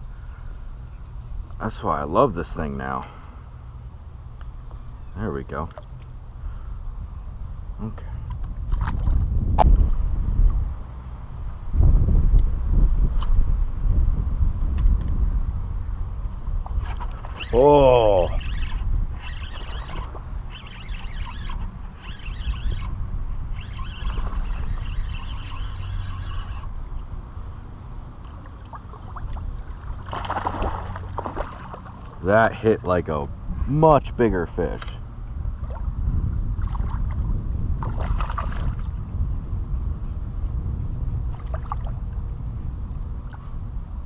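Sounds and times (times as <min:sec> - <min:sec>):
wind buffeting microphone: 0:04.4 - 0:44.0.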